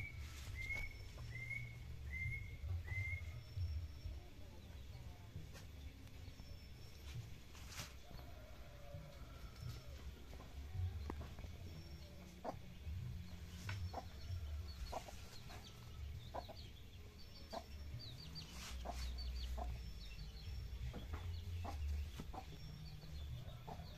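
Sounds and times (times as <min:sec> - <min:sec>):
bird clucks and chirps: 0:00.0 - 0:04.8, 0:05.5 - 0:23.9.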